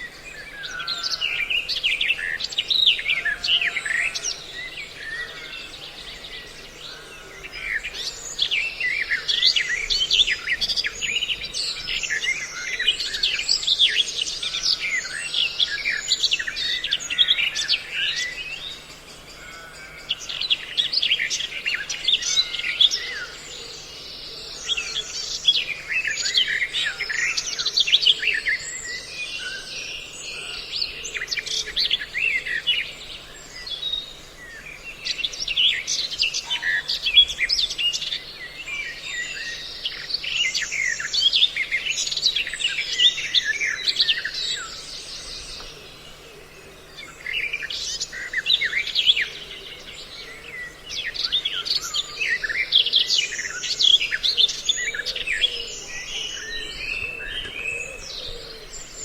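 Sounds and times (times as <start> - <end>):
many birds chirping and calling: 0.0 - 59.0.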